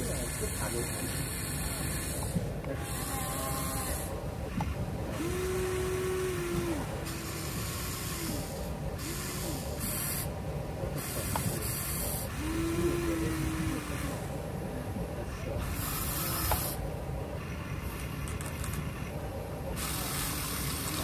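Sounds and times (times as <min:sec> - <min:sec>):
small electric motors whirring: 0:00.0 - 0:21.0
steady hiss: 0:00.0 - 0:21.0.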